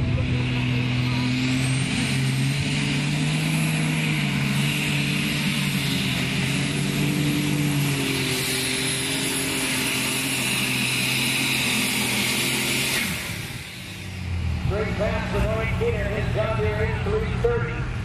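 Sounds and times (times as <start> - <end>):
tractor engine screaming under load: 0.3 - 18.0.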